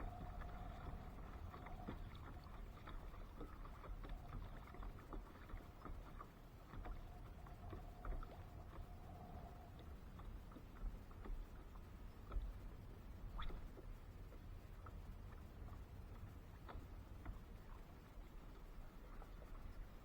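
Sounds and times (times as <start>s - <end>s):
faint steady hum: 0.0s - 20.0s
water and wind noise: 0.0s - 20.0s.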